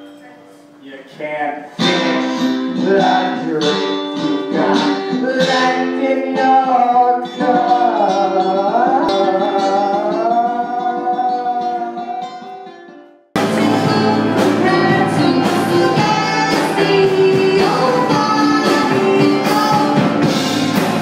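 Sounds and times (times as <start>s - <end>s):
person singing: 1.8s - 12.7s, 13.4s - 21.0s
strummed guitar chords: 1.8s - 21.0s.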